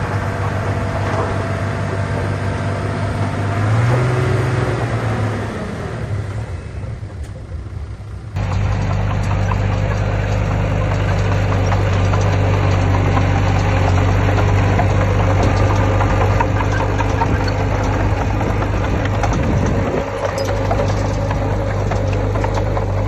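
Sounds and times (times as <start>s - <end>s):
heavy machinery diesel engine running: 0.0s - 23.0s.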